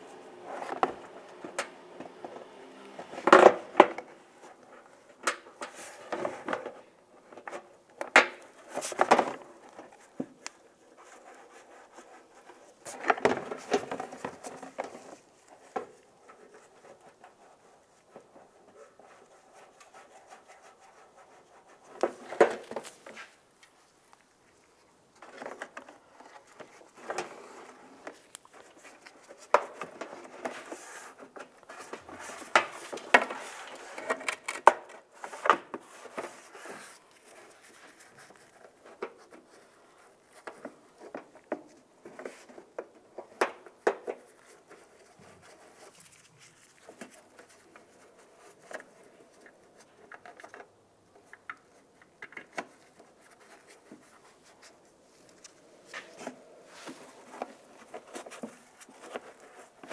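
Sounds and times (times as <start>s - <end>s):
plastic scraping and rustling: 0.0s - 59.9s.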